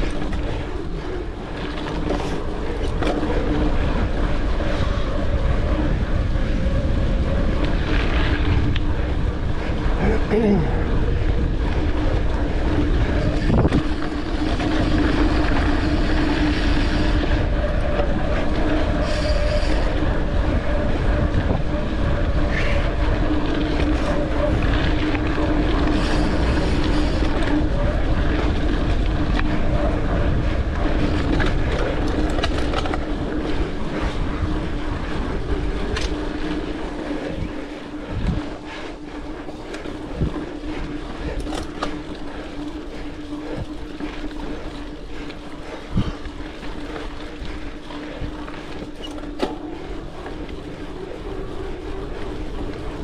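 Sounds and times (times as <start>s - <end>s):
bike clicking and rattling: 0.0s - 53.0s
steady mid-pitched hum: 0.0s - 53.0s
wind over microphone: 0.0s - 53.0s.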